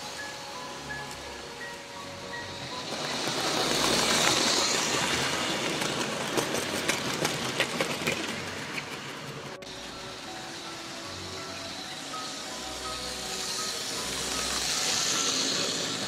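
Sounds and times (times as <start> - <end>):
model train rushing past: 0.0 - 16.0
wheels clicking on track: 0.0 - 16.0.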